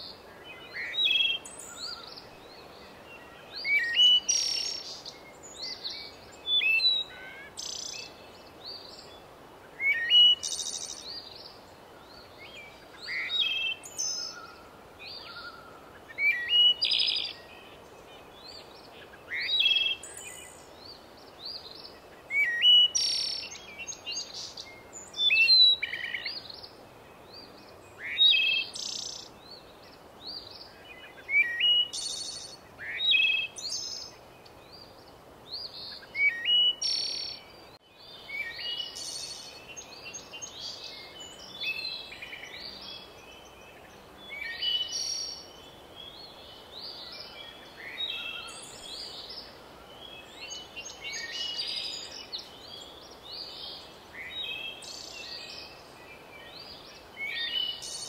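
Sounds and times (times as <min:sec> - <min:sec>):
faint steady hiss: 0:00.0 - 0:58.0
small birds chirping and singing: 0:00.0 - 0:58.0.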